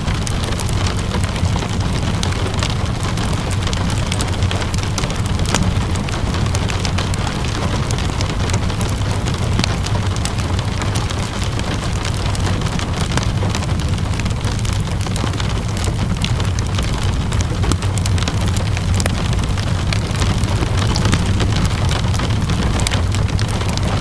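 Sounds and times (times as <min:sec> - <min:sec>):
low rumble: 0:00.0 - 0:24.0
steady rainfall: 0:00.0 - 0:24.0
wood fire crackling: 0:00.0 - 0:24.0.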